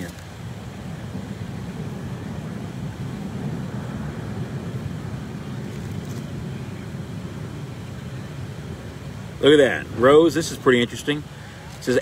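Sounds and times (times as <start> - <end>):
steady low rumbling: 0.0 - 12.0.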